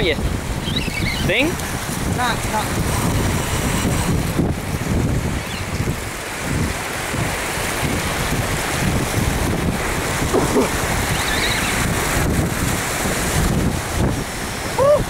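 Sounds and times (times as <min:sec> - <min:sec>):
ocean waves washing against rocks: 0:00.0 - 0:15.0
wind buffeting microphone: 0:00.0 - 0:15.0.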